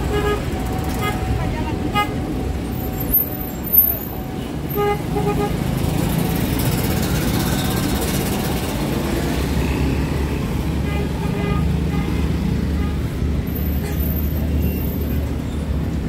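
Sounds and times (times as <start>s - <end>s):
traffic passing: 0.0s - 16.0s.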